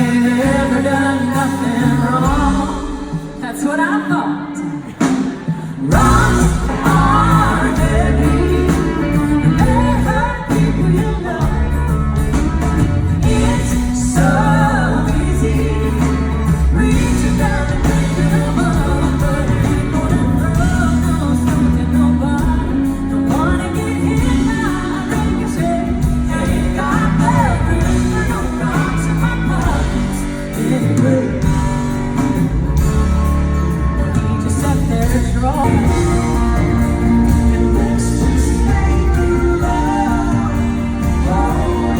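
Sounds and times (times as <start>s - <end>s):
person singing: 0.0s - 32.3s, 34.1s - 41.9s
band playing: 0.0s - 41.9s.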